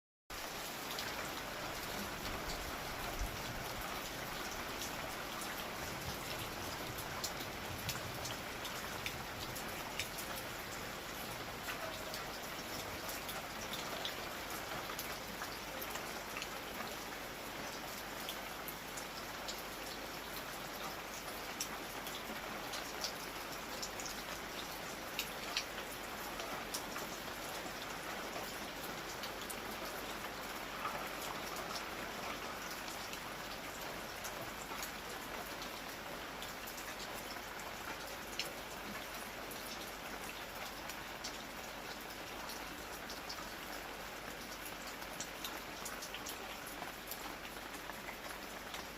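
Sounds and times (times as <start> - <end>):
raindrops ticking close by: 0.3 - 48.9
steady rain hiss: 0.3 - 48.9.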